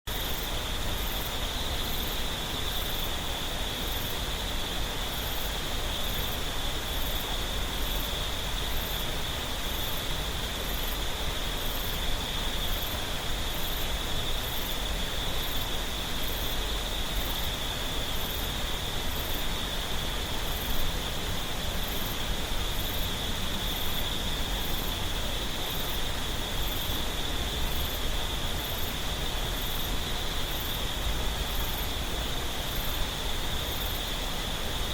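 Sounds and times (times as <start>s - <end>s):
insect hum: 0.1s - 34.9s
stream water over rocks: 0.1s - 34.9s.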